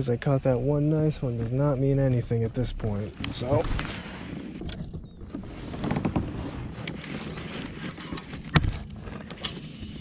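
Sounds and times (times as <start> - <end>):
rustling and tackle clicks: 0.0 - 10.0.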